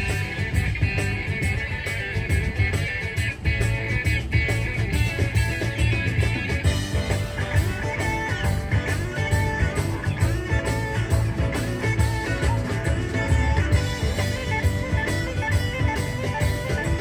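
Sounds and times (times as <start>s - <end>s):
guitar music with bass-heavy beat: 0.0s - 17.0s.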